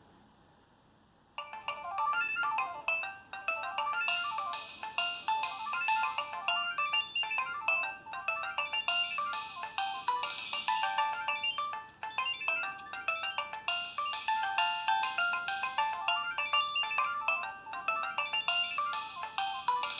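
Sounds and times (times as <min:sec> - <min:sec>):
synthesized phone ringtone melody: 0:01.4 - 0:19.9.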